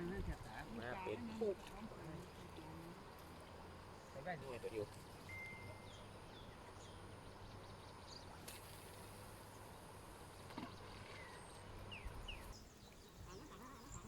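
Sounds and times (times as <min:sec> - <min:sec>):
faint open-air ambience: 0:00.0 - 0:14.0.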